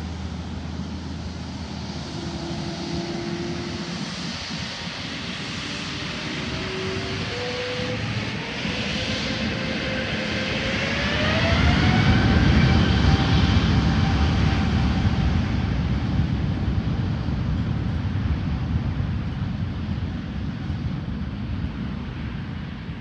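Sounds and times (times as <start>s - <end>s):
jet engine rumble: 0.0s - 23.0s
jet engine whine: 0.0s - 23.0s.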